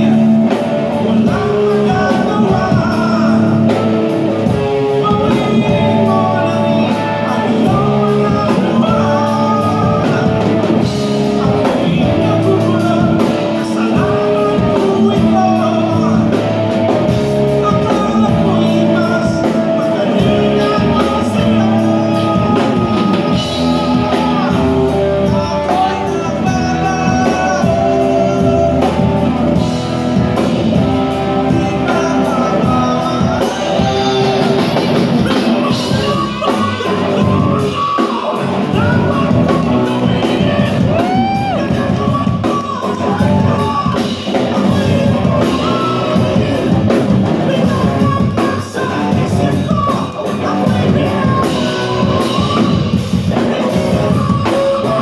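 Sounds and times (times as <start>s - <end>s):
drum kit: 0.0s - 55.0s
electric guitar: 0.0s - 55.0s
person singing: 0.0s - 55.0s.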